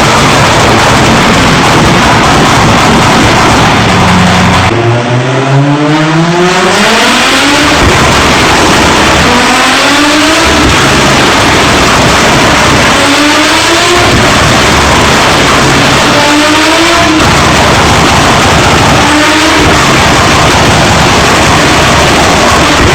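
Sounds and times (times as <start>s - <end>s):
car engine accelerating hard: 0.0s - 22.9s.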